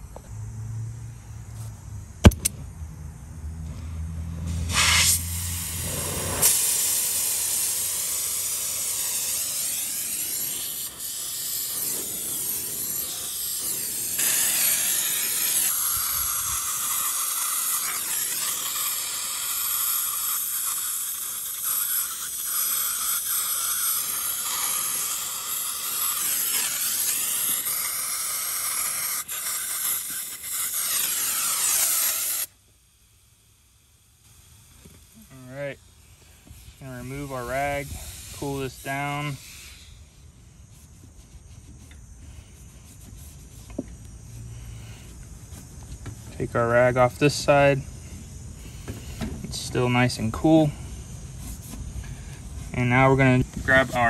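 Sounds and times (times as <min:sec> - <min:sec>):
torch flame hissing: 0:04.4 - 0:54.0.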